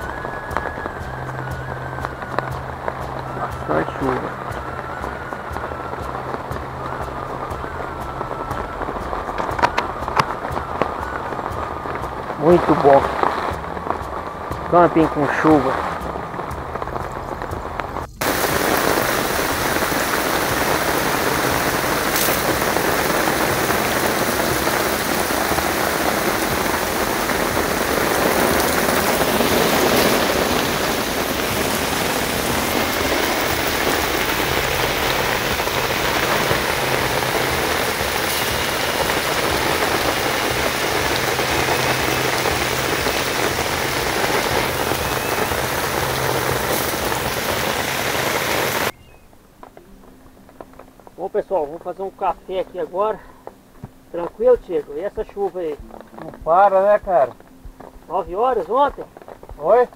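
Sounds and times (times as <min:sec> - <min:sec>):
heavy rain on woods: 0:00.0 - 0:59.9.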